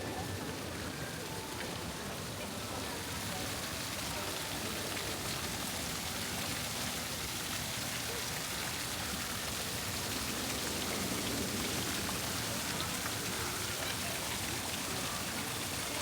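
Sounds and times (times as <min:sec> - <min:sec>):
running water hiss: 0:00.0 - 0:16.0.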